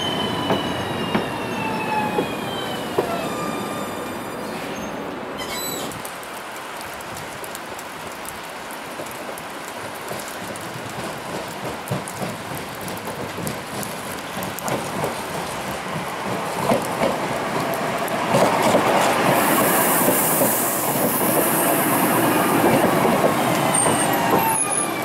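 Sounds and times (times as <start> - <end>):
tram running: 0.0 - 6.6, 9.0 - 25.0
rain hissing: 0.0 - 25.0.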